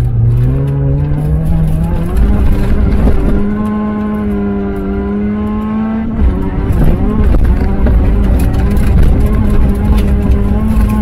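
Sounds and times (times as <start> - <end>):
race car engine revving: 0.0 - 11.0
tyres rumbling on gravel: 0.0 - 11.0.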